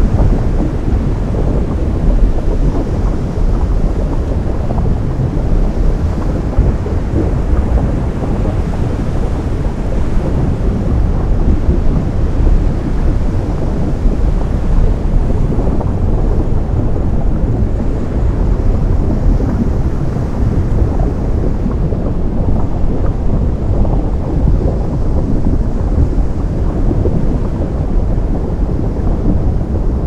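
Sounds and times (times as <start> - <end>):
deep rumble of surf: 0.0 - 30.0
dense crackle of lava: 0.0 - 30.0.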